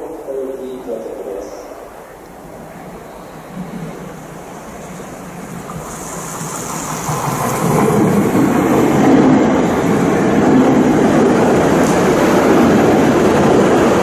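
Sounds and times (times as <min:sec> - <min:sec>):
train rushing rumble: 0:00.0 - 0:14.0.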